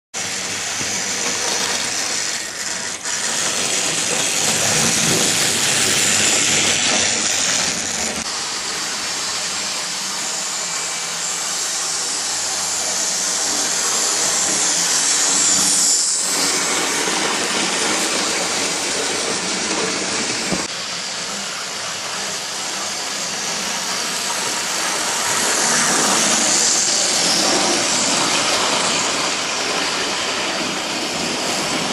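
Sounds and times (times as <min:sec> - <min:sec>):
model trains whirring on track: 0:00.2 - 0:31.9.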